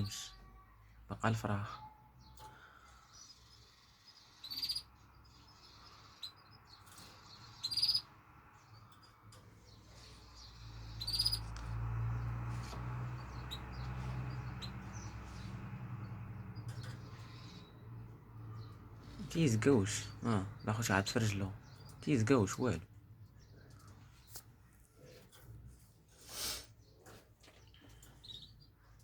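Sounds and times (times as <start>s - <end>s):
small cage birds chirping: 0.0s - 29.0s.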